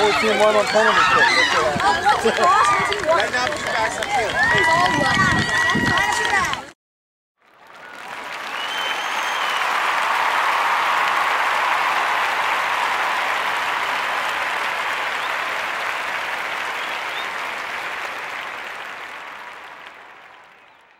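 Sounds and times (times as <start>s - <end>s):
crowd applause: 0.0s - 6.7s, 7.4s - 20.9s.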